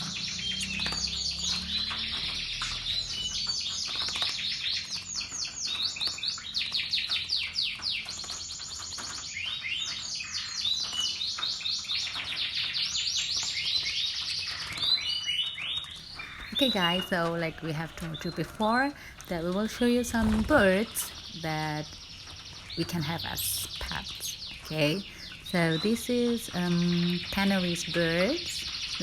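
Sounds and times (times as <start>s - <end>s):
songbirds chirping and trilling: 0.0s - 29.0s.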